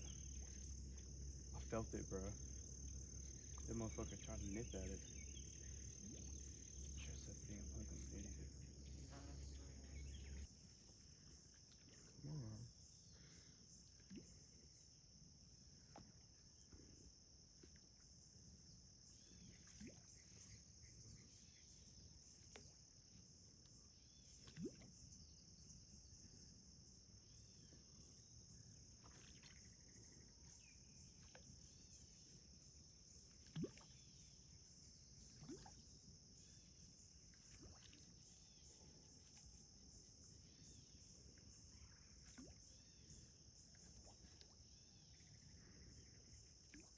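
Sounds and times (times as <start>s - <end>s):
night insects chorus: 0.0s - 46.9s.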